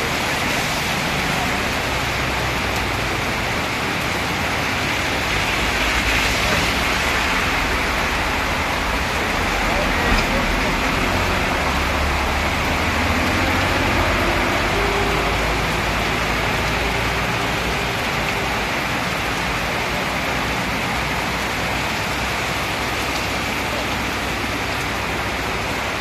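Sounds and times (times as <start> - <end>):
heavy rain on a wet street: 0.0 - 26.0
passing vehicles rumbling: 0.0 - 26.0.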